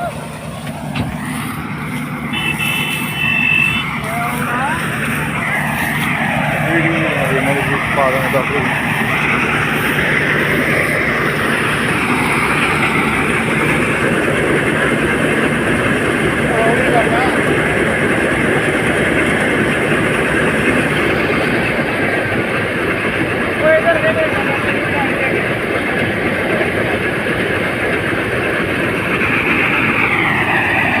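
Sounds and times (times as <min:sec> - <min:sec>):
combine harvester droning: 0:00.0 - 0:31.0.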